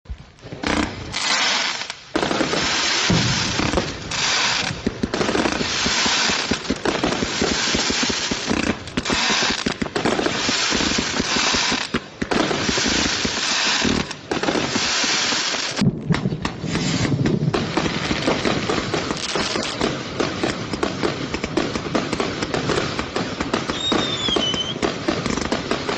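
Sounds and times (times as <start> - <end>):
firework shots and crackle: 0.1 - 25.9.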